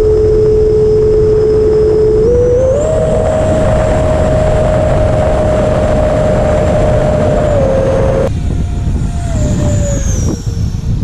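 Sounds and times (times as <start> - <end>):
electric fan high whine: 0.0 - 11.0
wind rush: 0.0 - 11.0.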